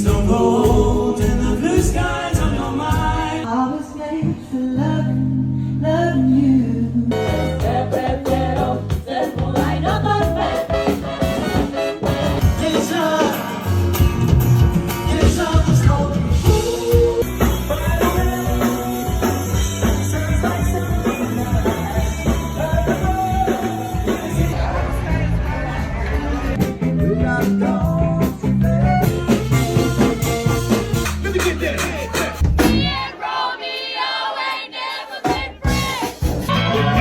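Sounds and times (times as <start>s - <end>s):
drums: 0.0s - 3.5s, 7.1s - 37.0s
band music with singing: 0.0s - 37.0s.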